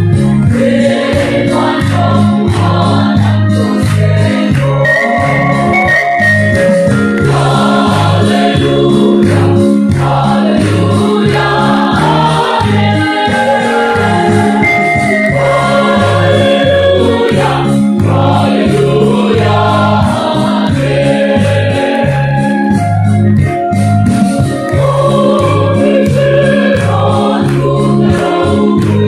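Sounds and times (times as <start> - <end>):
mixed choir singing gospel: 0.0 - 5.9, 7.0 - 23.4, 24.2 - 29.0
pulsing bass line: 0.0 - 29.0.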